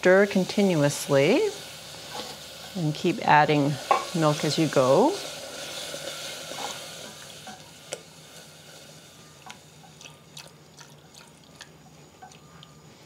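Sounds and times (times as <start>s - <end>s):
soft sizzle: 0.0s - 13.0s.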